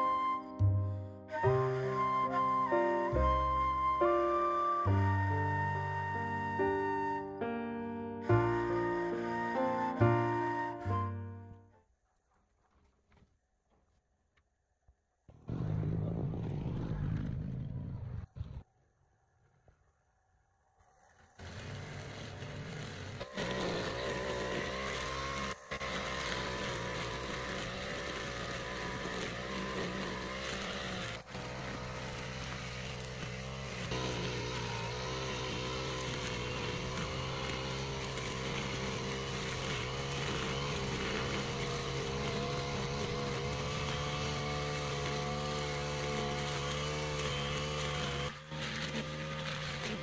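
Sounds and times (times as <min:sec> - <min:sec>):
brush cutter running: 0:00.0 - 0:11.6, 0:20.8 - 0:50.0.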